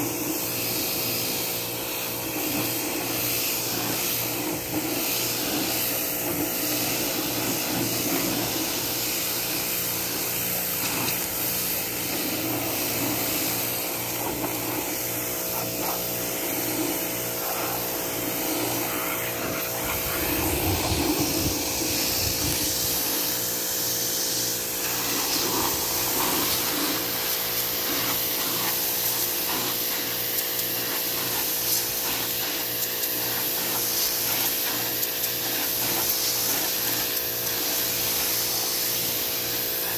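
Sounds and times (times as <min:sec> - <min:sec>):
pressure washer motor humming: 0:00.0 - 0:39.9
water jet hissing: 0:00.0 - 0:39.9.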